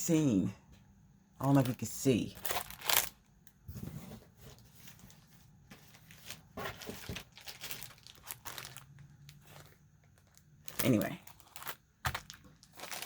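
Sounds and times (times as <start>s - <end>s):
packaging crinkling and rustling: 1.5s - 13.0s.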